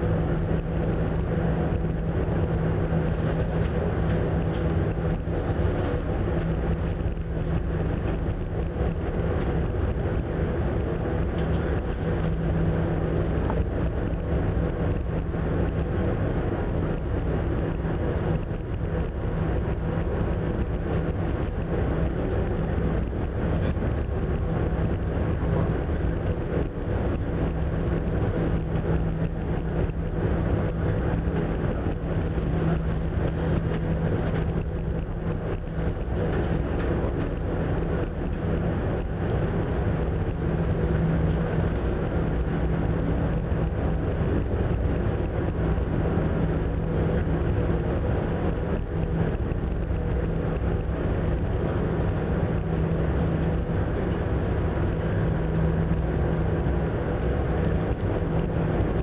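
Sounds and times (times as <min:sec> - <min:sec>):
ferry engine hum: 0:00.0 - 0:59.0.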